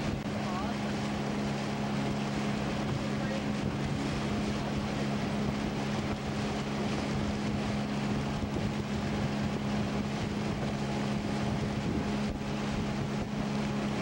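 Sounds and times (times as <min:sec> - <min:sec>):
outboard motor droning: 0:00.0 - 0:14.0
wind and water rushing: 0:00.0 - 0:14.0.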